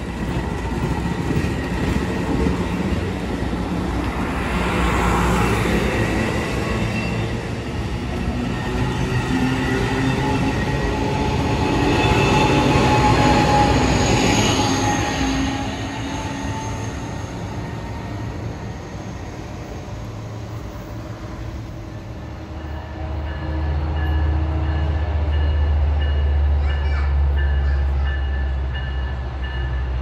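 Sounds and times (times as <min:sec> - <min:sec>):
diesel locomotive drone: 0:00.0 - 0:30.0
train wheels rumbling: 0:00.0 - 0:30.0.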